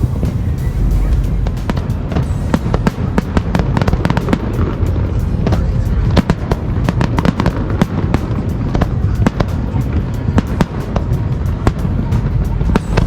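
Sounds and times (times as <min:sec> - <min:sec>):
continuous low rumble: 0:00.0 - 0:13.0
fireworks bangs and crackles: 0:00.0 - 0:13.0.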